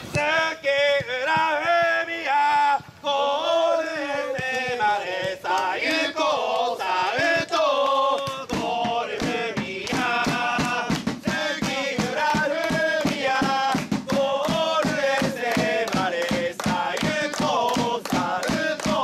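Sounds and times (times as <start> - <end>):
football crowd chanting: 0.0 - 19.0.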